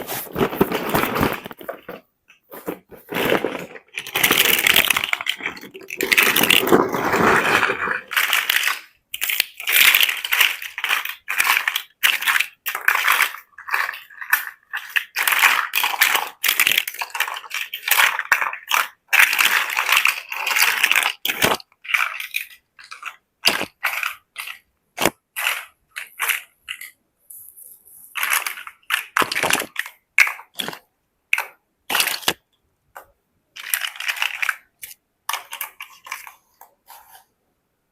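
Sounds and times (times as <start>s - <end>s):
plastic bricks clattering: 0.1s - 27.0s, 28.1s - 37.0s.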